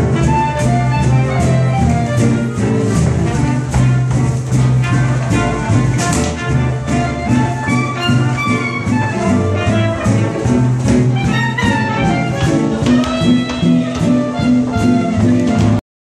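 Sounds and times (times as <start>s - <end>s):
double bass walking: 0.0s - 15.8s
drums: 0.0s - 15.8s
piano: 0.0s - 15.8s.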